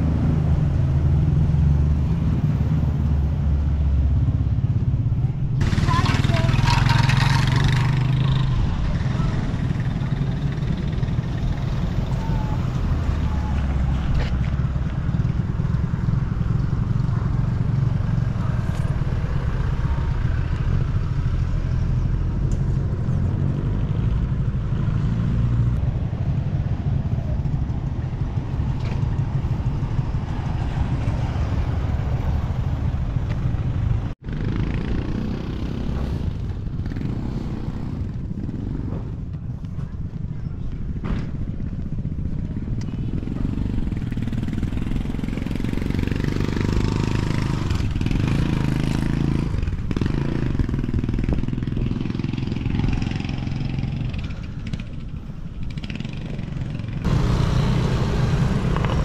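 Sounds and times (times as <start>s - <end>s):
city low rumble: 0.0s - 59.0s.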